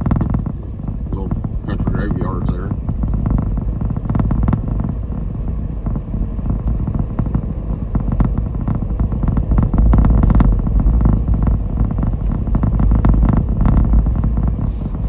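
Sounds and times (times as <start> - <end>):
car engine and tyres rumbling: 0.0 - 15.0
road rattles and knocks: 0.0 - 15.0.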